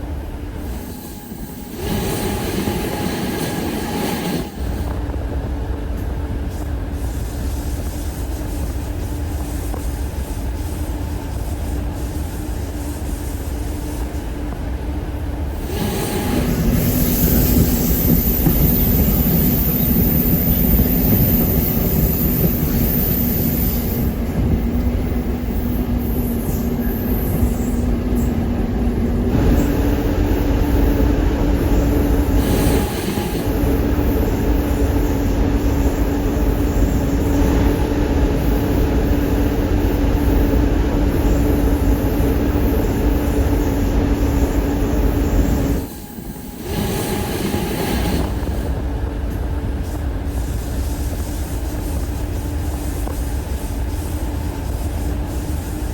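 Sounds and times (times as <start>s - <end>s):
train hum: 0.0s - 55.9s
train rolling rumble: 0.0s - 55.9s.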